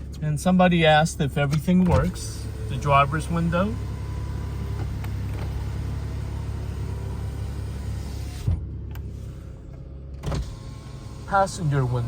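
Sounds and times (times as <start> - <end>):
car engine idling: 0.0 - 12.0
power window motor: 1.4 - 12.0.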